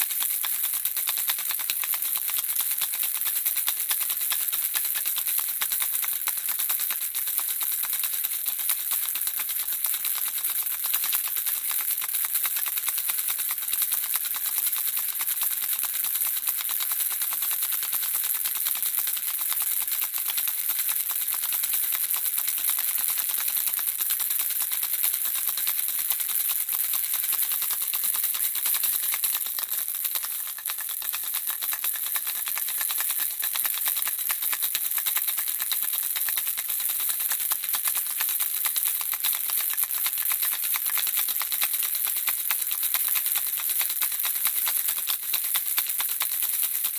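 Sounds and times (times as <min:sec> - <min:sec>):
baby rattle shaking: 0:00.0 - 0:46.9.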